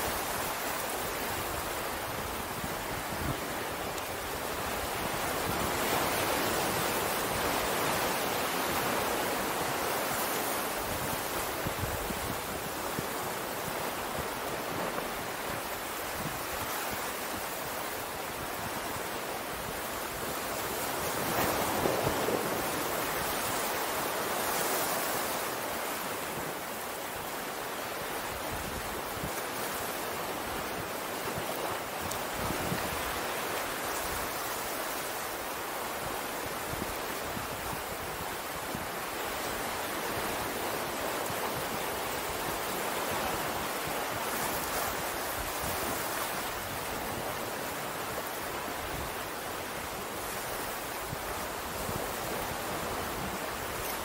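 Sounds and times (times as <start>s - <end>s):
ocean surf washing on shore: 0.0s - 54.0s.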